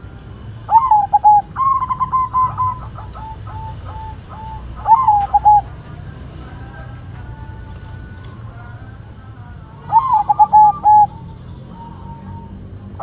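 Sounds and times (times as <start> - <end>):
dove cooing: 0.0 - 13.0
faint bird calls: 0.0 - 13.0.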